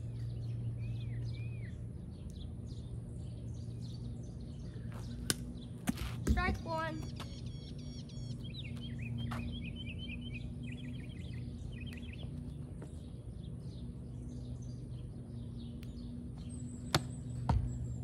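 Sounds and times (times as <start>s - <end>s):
birds chirping: 0.0s - 18.0s
low background hum: 0.0s - 18.0s.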